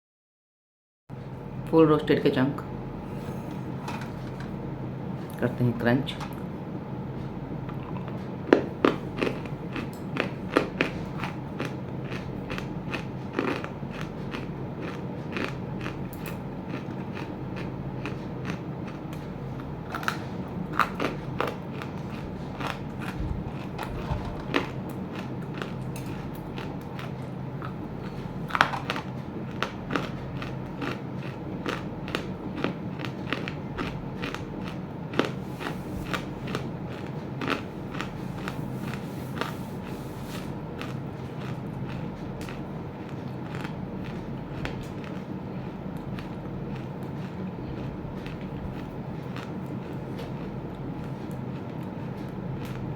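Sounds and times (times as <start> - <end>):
steady low hum: 1.1 - 52.9.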